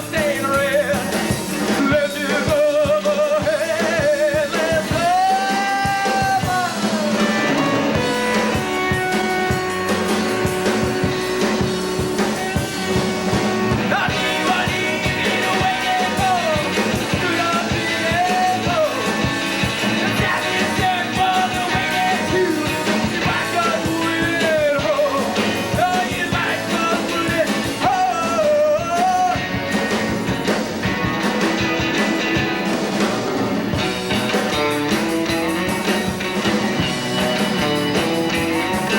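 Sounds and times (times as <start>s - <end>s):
bending lead guitar melody: 0.0s - 38.9s
drums keeping a steady beat: 0.0s - 38.9s
electric guitar: 0.0s - 38.9s.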